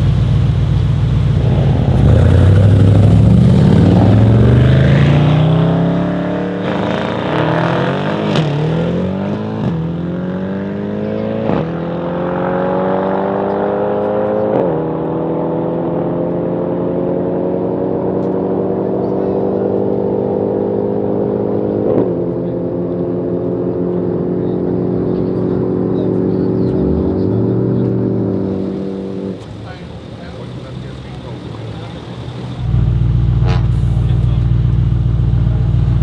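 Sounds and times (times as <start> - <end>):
car engine accelerating hard: 0.0 - 36.0.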